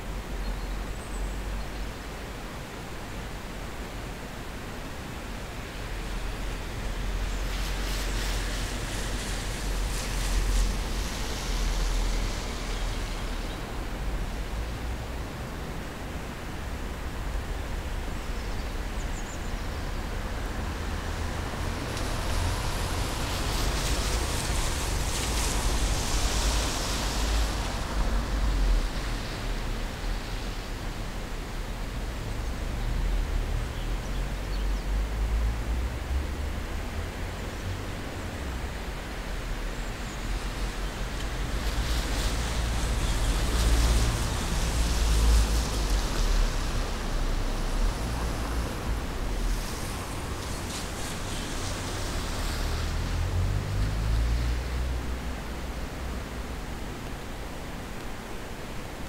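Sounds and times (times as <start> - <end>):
street hiss: 0.0 - 59.0
wind rumble on microphone: 0.0 - 59.0.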